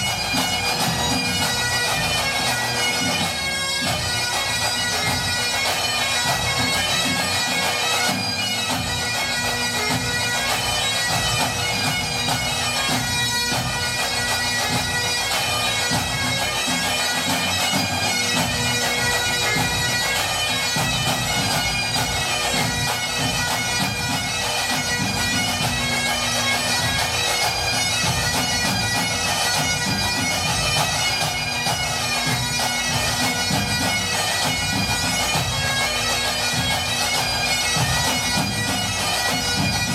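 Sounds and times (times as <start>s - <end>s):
bagpipes playing a tune: 0.0s - 39.9s.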